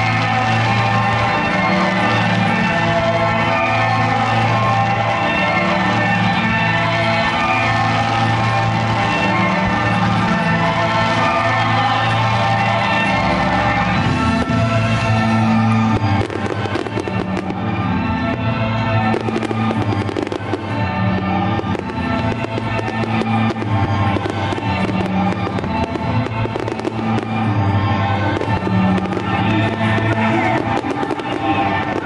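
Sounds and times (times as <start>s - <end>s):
fireworks bangs and crackles: 0.0s - 32.0s
loud music: 0.0s - 32.0s.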